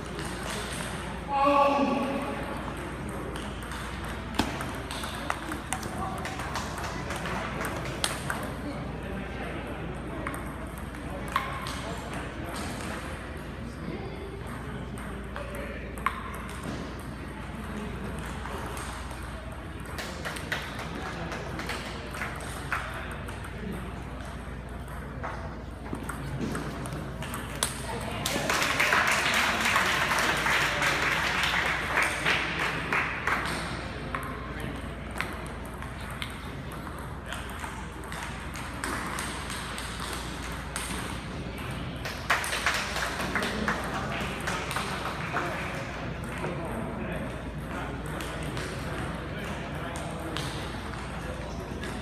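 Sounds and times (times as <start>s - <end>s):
busy table tennis hall noise: 0.0s - 52.0s.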